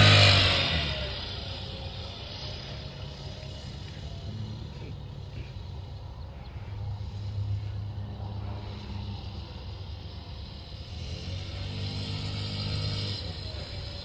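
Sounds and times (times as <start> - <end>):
distant scooter engine: 0.0 - 14.0.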